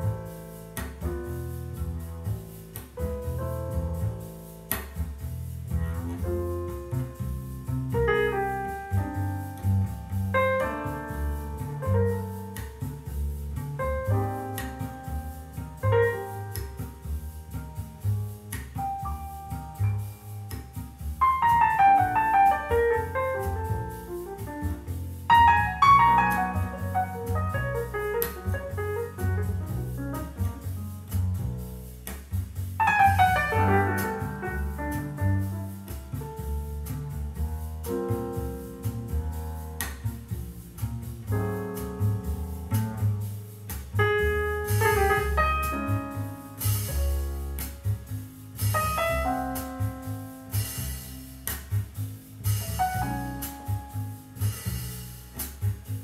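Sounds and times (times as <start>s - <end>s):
bass line: 0.0s - 56.0s.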